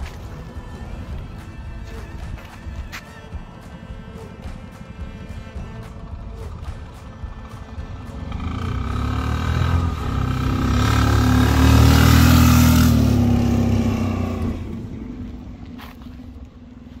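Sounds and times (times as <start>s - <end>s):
motorcycle diesel engine passing: 3.4s - 17.0s.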